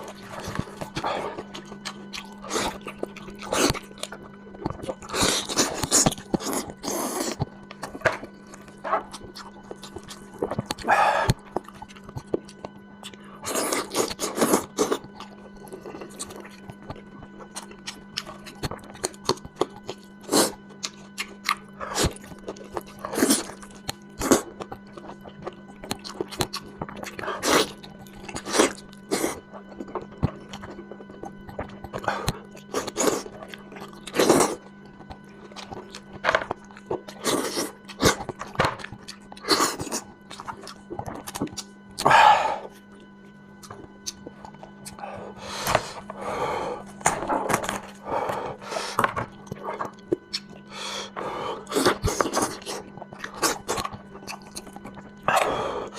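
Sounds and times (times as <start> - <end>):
person chewing and crunching: 0.0 - 55.9.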